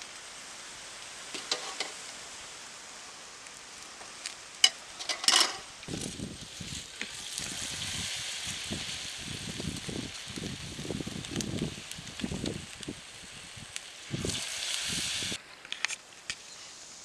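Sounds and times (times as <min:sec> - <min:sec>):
food sizzling in hot oil: 0:00.0 - 0:15.4.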